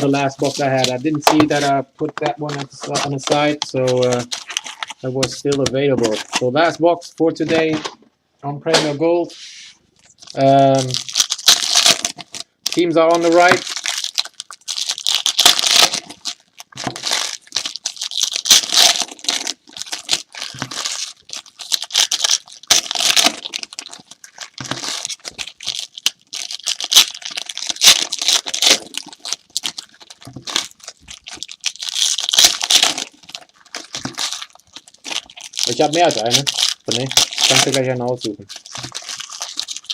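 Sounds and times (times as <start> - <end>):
foil wrappers tearing and crinkling: 0.0 - 6.7, 10.0 - 39.9.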